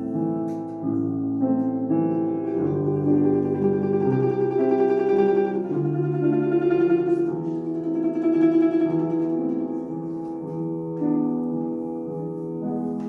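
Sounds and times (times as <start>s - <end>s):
solo instrumental melody: 0.0s - 13.0s.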